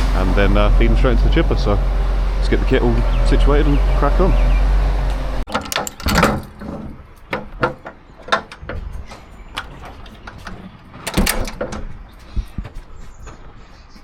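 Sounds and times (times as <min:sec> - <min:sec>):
work gear knocking and clunking: 0:00.0 - 0:13.4.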